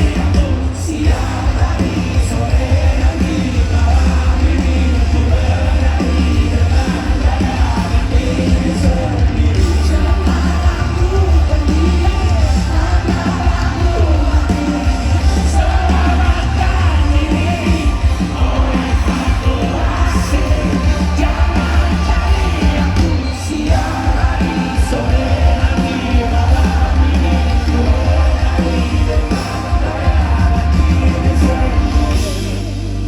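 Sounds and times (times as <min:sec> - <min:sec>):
person singing: 0:00.0 - 0:32.7
crowd voices: 0:00.0 - 0:33.0
live pop-rock band: 0:00.0 - 0:33.0.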